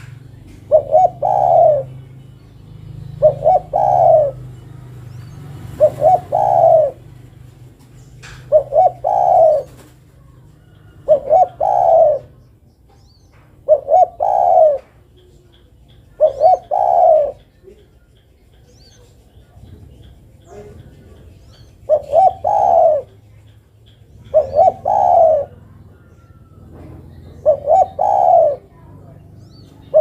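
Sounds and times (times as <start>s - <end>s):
dove cooing: 0.0s - 12.6s, 13.3s - 17.9s, 18.9s - 30.0s.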